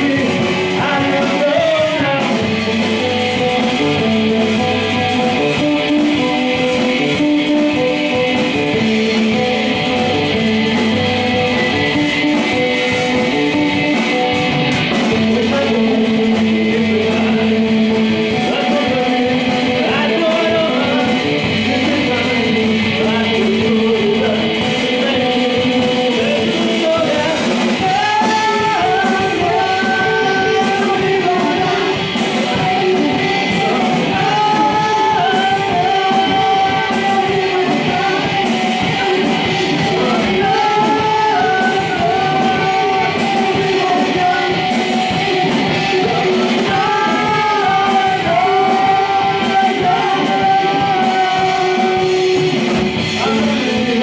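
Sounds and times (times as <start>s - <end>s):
drums: 0.0s - 54.0s
electric guitars: 0.0s - 54.0s
person singing: 0.0s - 54.0s.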